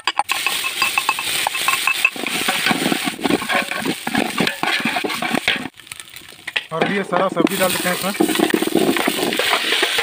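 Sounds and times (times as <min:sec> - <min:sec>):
ginger sizzling in hot fat: 0:00.2 - 0:10.0.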